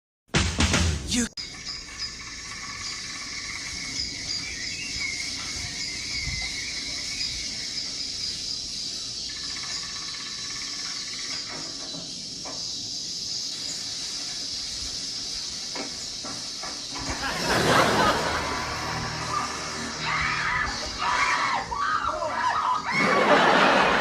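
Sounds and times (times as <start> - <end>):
high-pitched hiss: 1.4 - 22.9.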